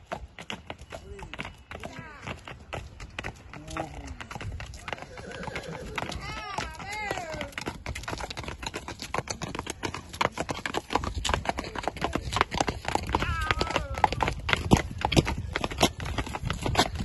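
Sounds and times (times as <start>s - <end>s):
horse hooves clopping on dirt: 0.0s - 17.0s.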